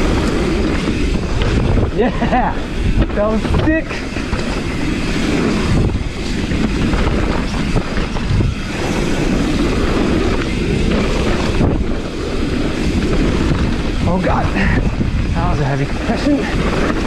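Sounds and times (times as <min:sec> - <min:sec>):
bike rattling over bumps: 0:00.0 - 0:17.0
wind rushing over microphone: 0:00.0 - 0:17.0.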